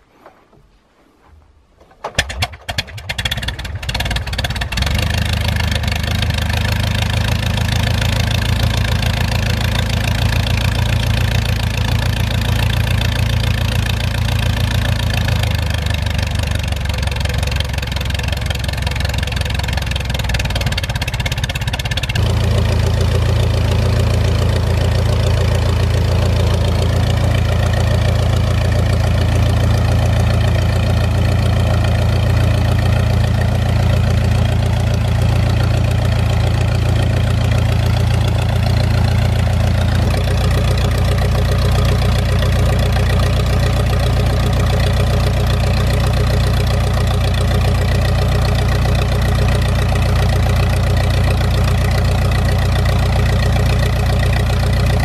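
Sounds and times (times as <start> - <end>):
aircraft engine starting and idling: 2.1 - 55.0.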